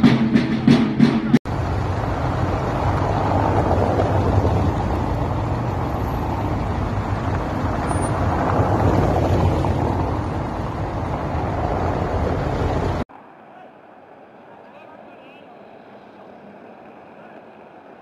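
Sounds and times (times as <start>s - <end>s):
traffic on cobblestone street: 0.0s - 18.0s.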